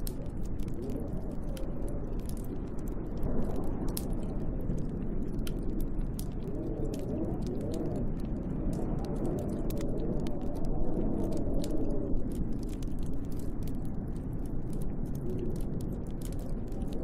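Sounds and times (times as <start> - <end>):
wind moaning: 0.0 - 17.0
wood fire crackling: 0.0 - 17.0.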